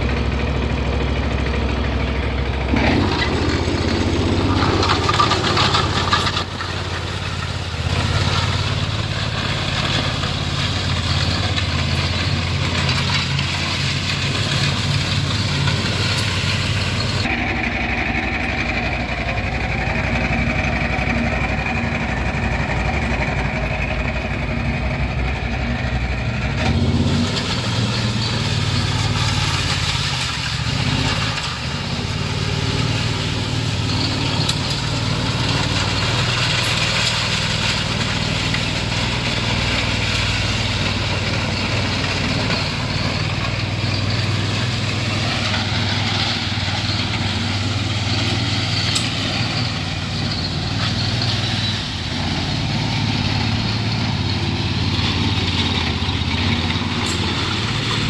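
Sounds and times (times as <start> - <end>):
power trowel engine running: 0.0 - 58.0.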